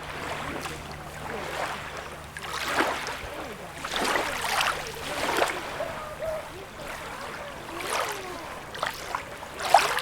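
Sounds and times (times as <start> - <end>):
small waves splashing at shore: 0.0 - 10.0.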